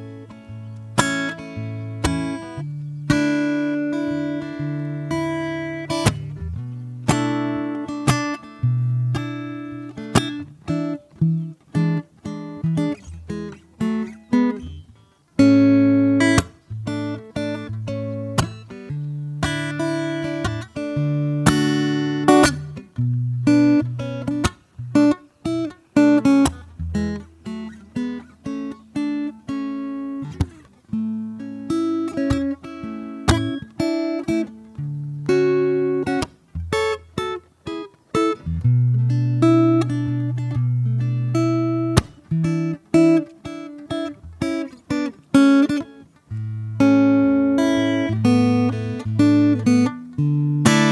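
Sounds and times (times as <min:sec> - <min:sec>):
acoustic guitar: 0:00.0 - 0:50.9.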